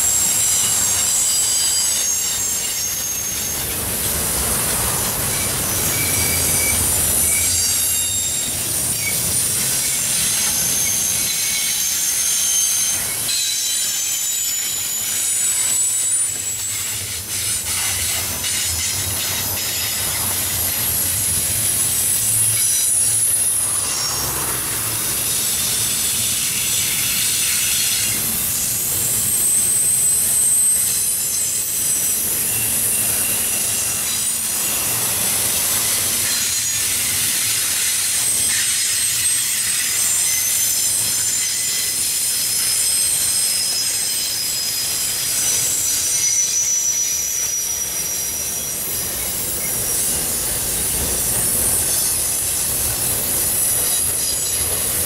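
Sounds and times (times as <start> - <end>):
high-pitched wheel squeal: 0.0 - 4.1, 4.8 - 55.0
freight train wheels rumbling: 0.0 - 55.0.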